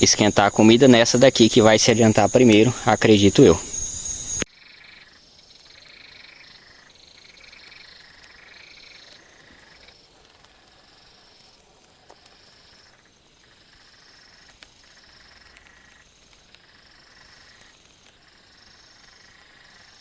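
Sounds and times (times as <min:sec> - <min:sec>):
frogs calling: 0:00.0 - 0:20.0.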